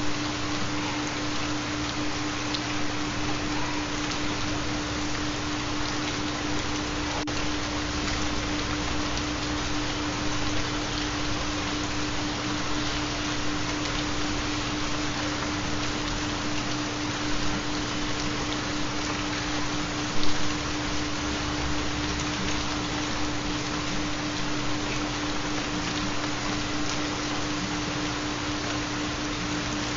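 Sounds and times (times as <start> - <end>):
continuous low tone: 0.0 - 29.9
steady rain patter: 0.0 - 29.9.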